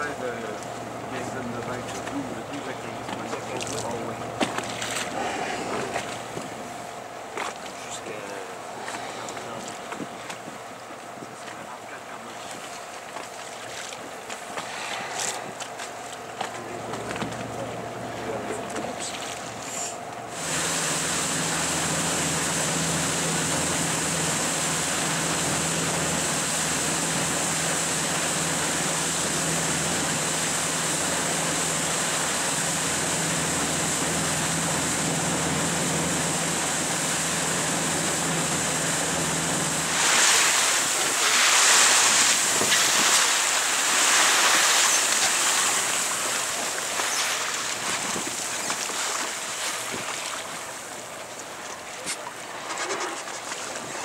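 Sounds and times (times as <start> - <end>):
boat engine hum: 0.0 - 54.0
waves around a boat: 0.0 - 54.0
wind: 0.0 - 54.0.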